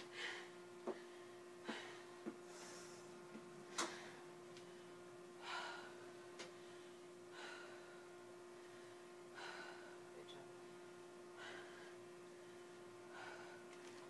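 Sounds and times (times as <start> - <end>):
woman breathing heavily: 0.0 - 14.0.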